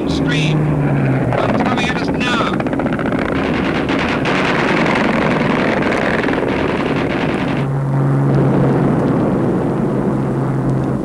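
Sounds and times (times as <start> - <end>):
bomber piston engines droning: 0.0 - 11.0
harsh rushing noise: 0.0 - 11.0.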